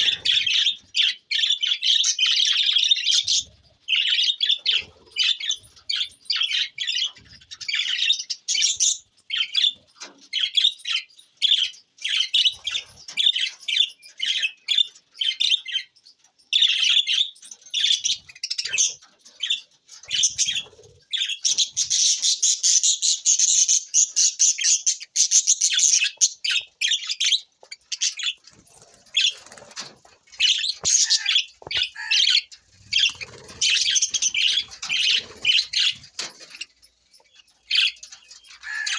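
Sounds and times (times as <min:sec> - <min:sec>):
budgerigars chirping and warbling: 0:00.0 - 0:38.9.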